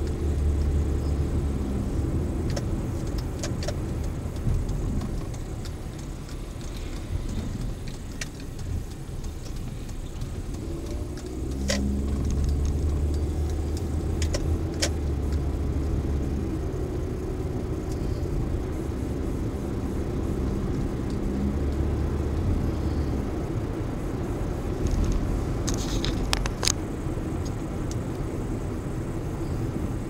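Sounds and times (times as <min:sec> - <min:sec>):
sharp clicks: 0:00.0 - 0:21.9, 0:24.0 - 0:28.3
car engine and road noise: 0:00.0 - 0:30.0.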